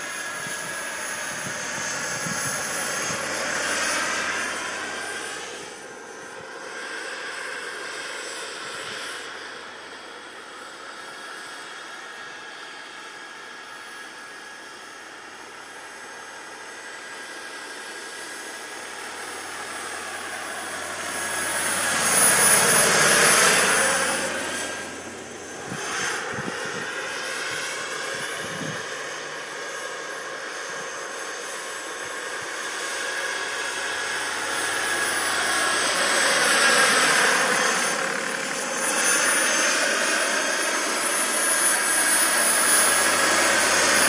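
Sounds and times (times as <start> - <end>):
model helicopter whine: 0.0 - 44.0.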